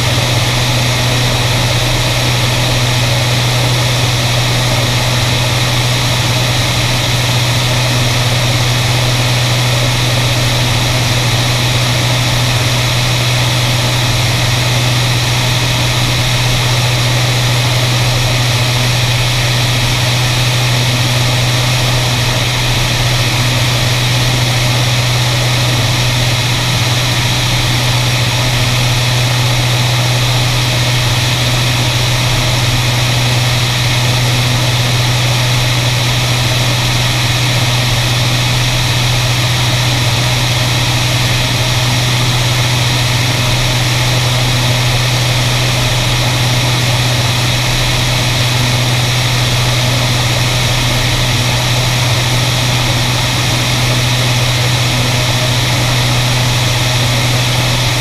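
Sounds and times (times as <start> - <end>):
aircraft engines humming: 0.0 - 58.0.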